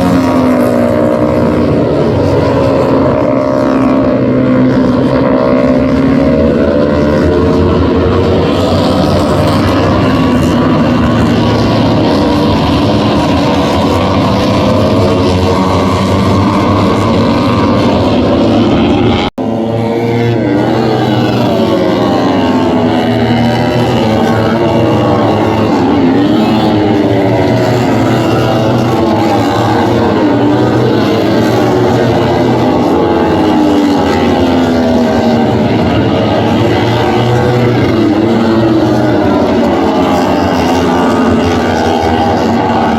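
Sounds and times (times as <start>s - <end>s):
race bike engines at high revs: 0.0s - 42.9s.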